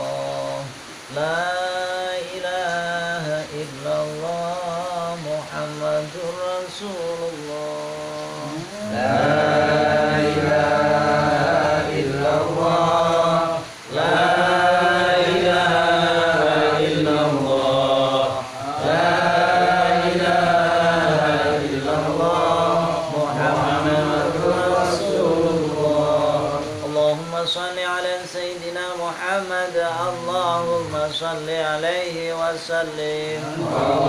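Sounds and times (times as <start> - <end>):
men chanting together: 0.0 - 27.6, 29.4 - 34.0.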